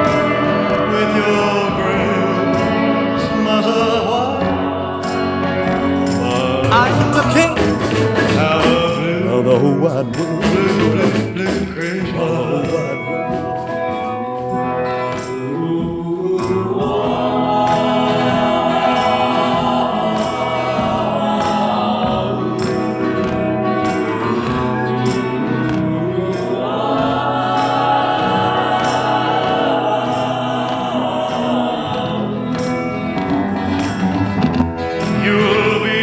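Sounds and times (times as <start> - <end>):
choir singing wordless phrases: 0.0 - 36.0
slow ballad band: 0.0 - 36.0.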